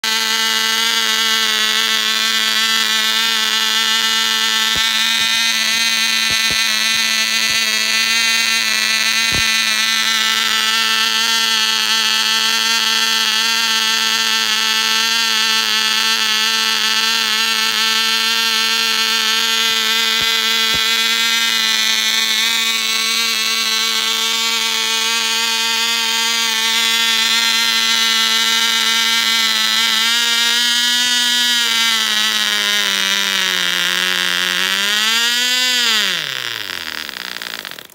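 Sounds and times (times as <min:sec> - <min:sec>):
high-pitched model engine buzz: 0:00.0 - 0:37.9.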